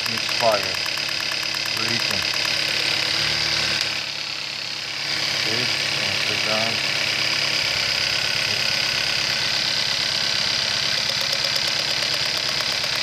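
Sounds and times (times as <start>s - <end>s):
car engine idling unevenly: 0.0s - 13.0s.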